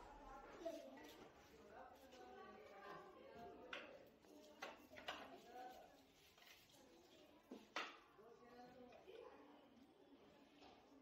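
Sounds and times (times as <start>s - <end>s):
faint background voices: 0.0s - 11.0s.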